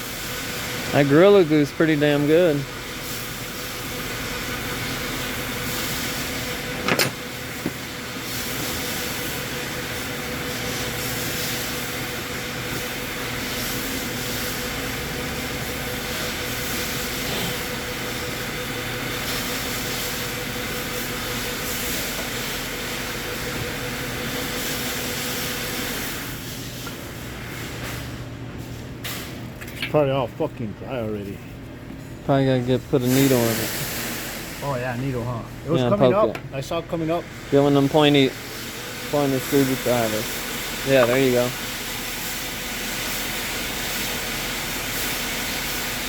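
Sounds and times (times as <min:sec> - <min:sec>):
machine hiss: 0:00.0 - 0:28.1, 0:32.7 - 0:35.0, 0:37.1 - 0:46.0.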